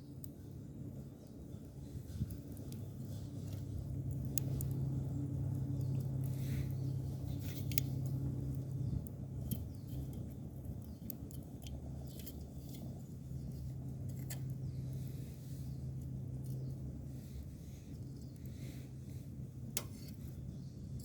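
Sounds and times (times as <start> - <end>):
steady low hum: 0.0 - 21.0
wood fire crackling: 0.0 - 21.0.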